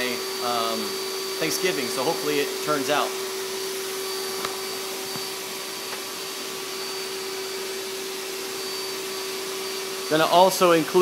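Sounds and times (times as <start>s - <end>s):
electric motor humming: 0.0s - 11.0s.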